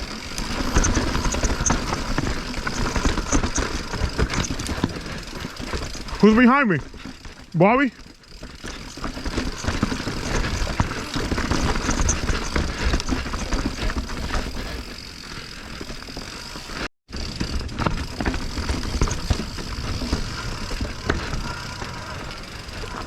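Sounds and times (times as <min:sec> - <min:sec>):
bike knocking and rattling: 0:00.0 - 0:23.0
bike tyres on rock and dirt: 0:00.0 - 0:23.0.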